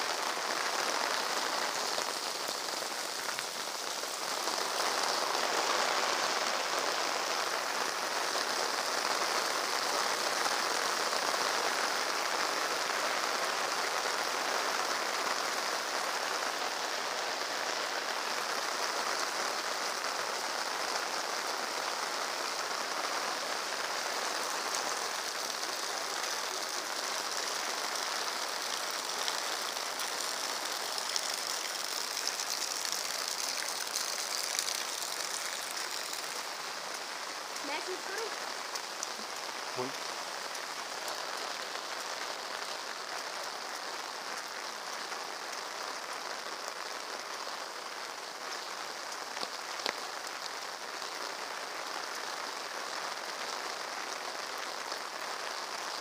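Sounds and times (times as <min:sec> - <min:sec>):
heavy rain on street: 0:00.0 - 0:56.0.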